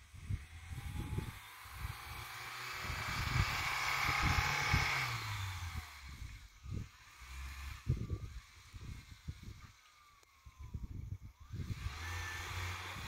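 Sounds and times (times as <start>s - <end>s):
car pushing through deep snow: 0.0s - 10.5s, 11.5s - 13.0s
car engine running: 0.0s - 13.0s.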